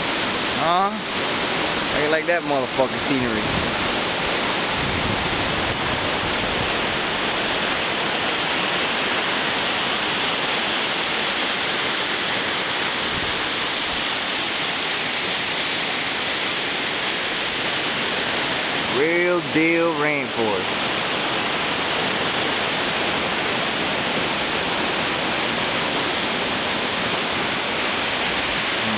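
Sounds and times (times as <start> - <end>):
waterfall roaring: 0.0 - 28.9.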